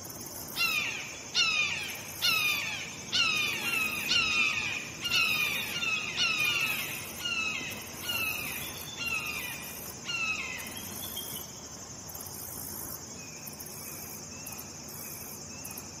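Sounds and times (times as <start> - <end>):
high insect buzz: 0.0 - 16.0.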